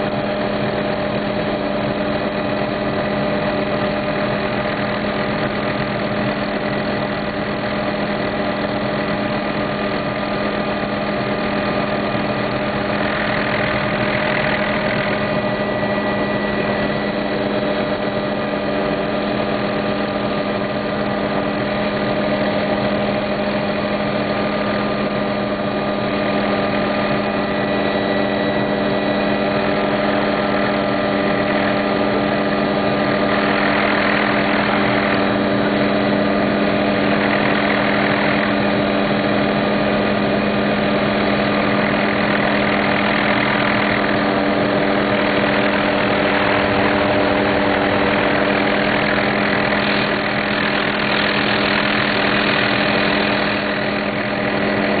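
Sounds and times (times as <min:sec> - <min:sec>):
helicopter engine and rotor droning: 0:00.0 - 0:55.0.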